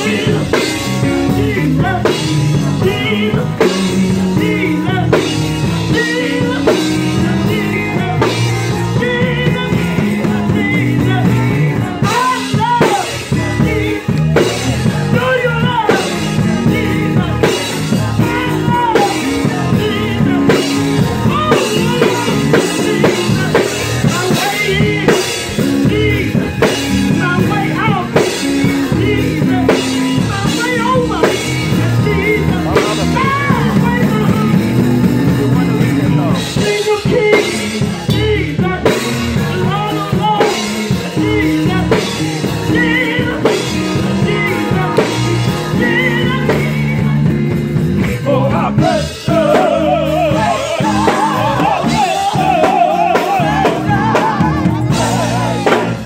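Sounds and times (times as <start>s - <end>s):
choir singing gospel: 0.0s - 56.0s
drum kit: 0.0s - 56.0s
keyboard: 0.0s - 56.0s.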